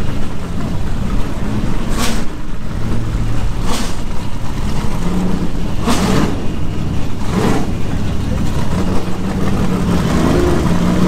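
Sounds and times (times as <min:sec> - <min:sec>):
racing car engine rumbling: 0:00.0 - 0:11.0.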